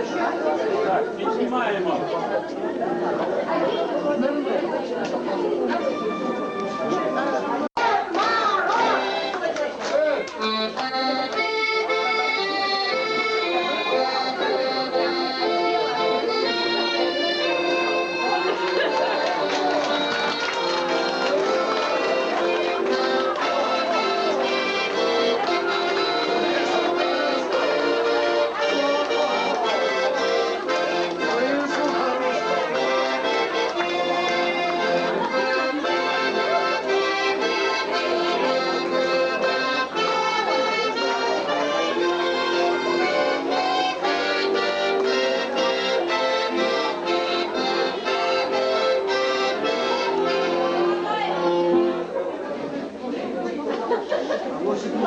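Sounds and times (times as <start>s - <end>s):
accordion music: 0.0s - 53.0s.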